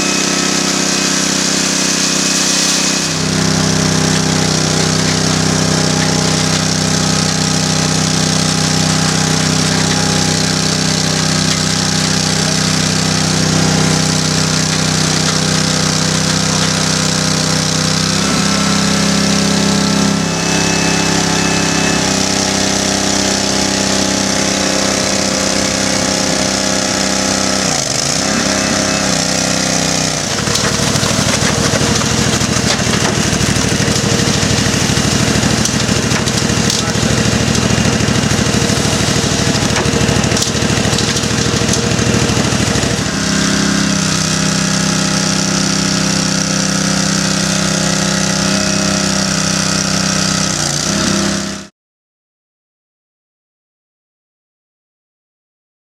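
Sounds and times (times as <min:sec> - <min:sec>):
rough noisy churning: 0:00.0 - 0:51.5
concrete mixer engine running: 0:00.0 - 0:51.7.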